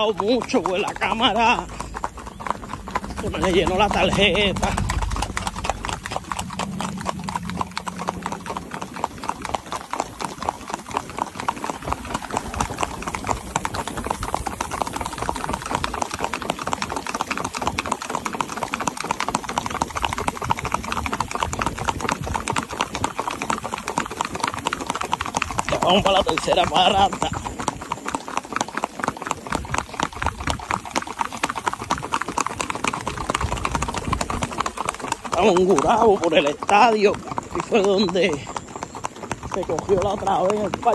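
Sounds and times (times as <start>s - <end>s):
horse hooves on asphalt: 0.0s - 40.9s.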